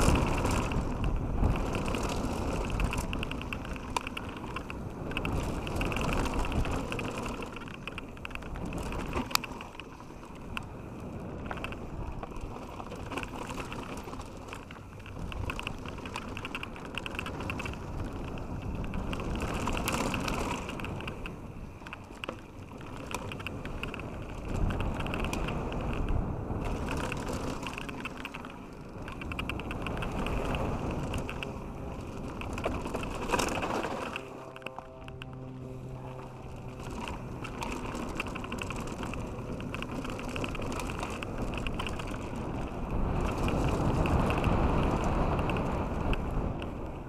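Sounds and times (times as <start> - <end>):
tyres crunching and skidding on gravel: 0.0 - 46.9
bike rattling and clicking: 0.0 - 47.0.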